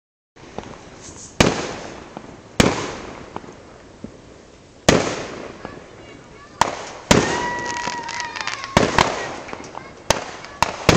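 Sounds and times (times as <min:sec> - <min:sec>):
firework booms: 0:00.4 - 0:10.9
small firework pops: 0:00.5 - 0:04.2, 0:04.9 - 0:05.8, 0:06.6 - 0:10.9.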